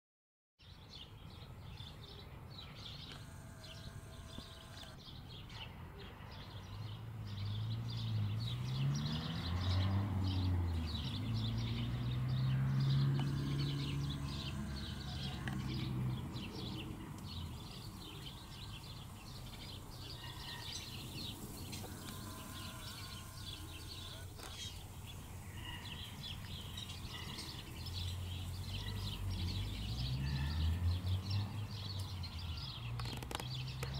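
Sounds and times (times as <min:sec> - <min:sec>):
small birds chirping: 0:00.6 - 0:33.9.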